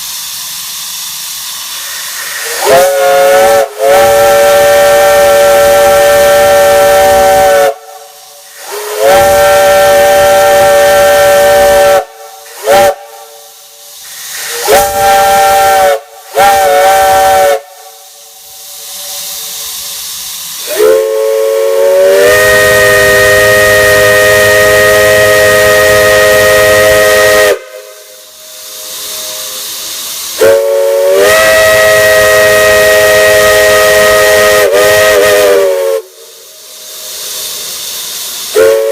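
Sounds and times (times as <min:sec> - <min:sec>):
multi-chime steam whistle blasts: 0:00.0 - 0:38.9
steam hissing: 0:00.0 - 0:38.9.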